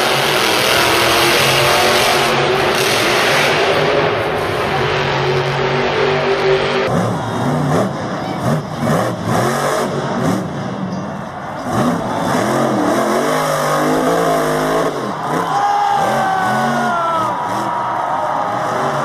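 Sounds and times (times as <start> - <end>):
truck engine revving hard: 0.0 - 10.9, 11.6 - 19.0.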